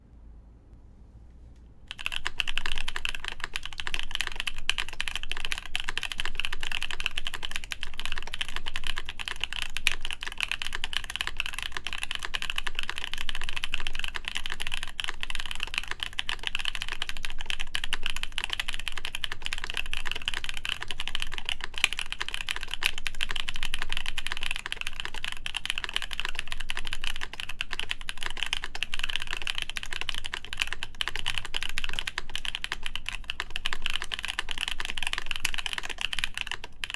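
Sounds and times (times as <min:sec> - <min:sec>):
fast mechanical keyboard typing: 0:01.9 - 0:36.9.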